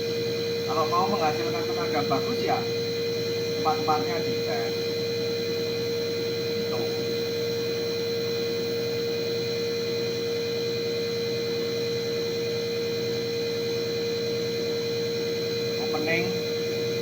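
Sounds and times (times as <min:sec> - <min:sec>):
injector test bench humming and pulsing: 0:00.0 - 0:17.0.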